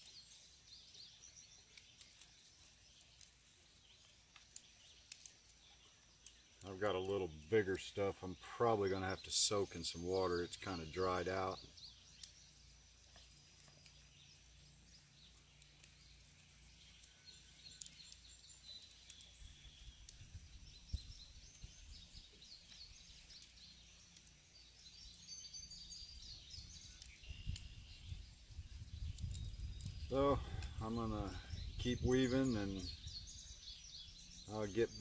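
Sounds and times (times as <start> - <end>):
clicks and rustles of vines: 0.0 - 33.7
faint bird chirps: 0.0 - 35.0
faint outdoor ambience: 0.0 - 35.0.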